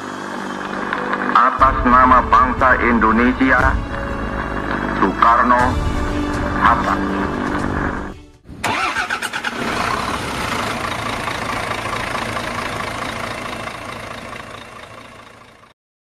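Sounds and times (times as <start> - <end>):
engine starting and running: 0.0 - 15.8.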